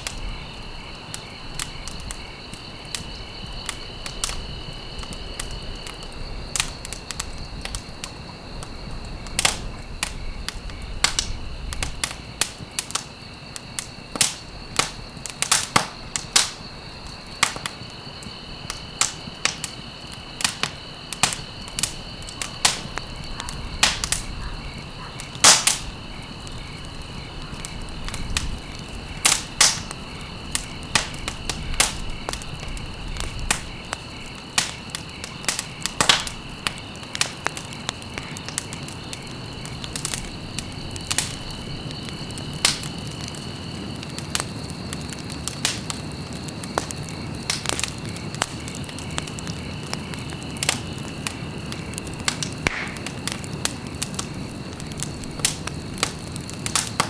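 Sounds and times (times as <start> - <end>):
low fire hiss: 0.0 - 57.0
wood fire crackling and popping: 0.0 - 57.0.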